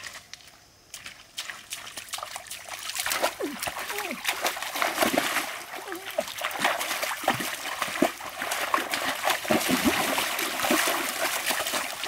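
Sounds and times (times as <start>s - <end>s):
stream water splashing: 0.9s - 12.0s.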